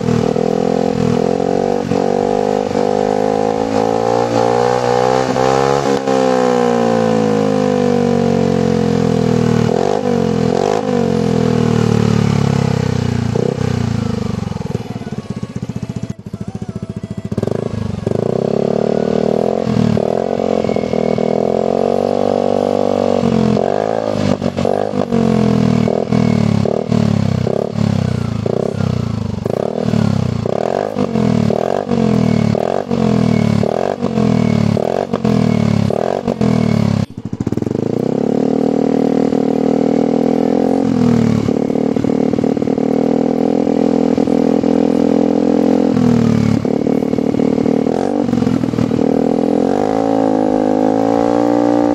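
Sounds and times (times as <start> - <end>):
scooter engine revving: 0.0 - 51.9.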